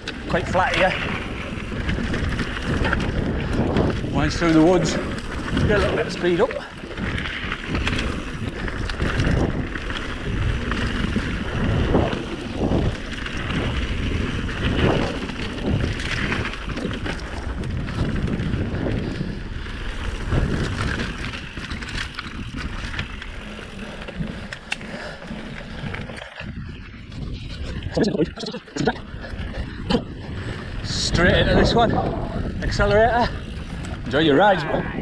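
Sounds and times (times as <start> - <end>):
bike knocking and rattling: 0.0 - 34.2
bike tyres on dirt trail: 0.0 - 35.0
wind buffeting microphone: 0.0 - 35.0.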